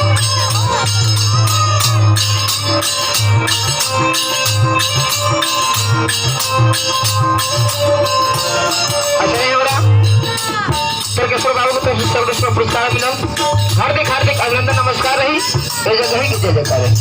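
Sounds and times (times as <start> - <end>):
fast jingling percussion: 0.0 - 17.0
sustained melodic tones: 0.0 - 17.0.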